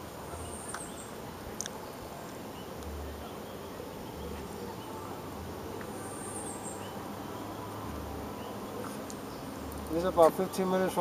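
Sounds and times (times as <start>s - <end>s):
insects buzzing and chirping: 0.0s - 11.0s.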